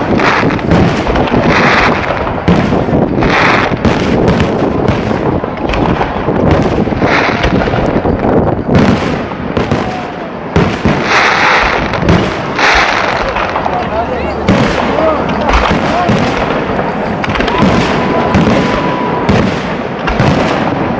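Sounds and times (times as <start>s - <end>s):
fireworks bangs and booms: 0.0s - 20.9s
fireworks crackle: 0.0s - 20.9s.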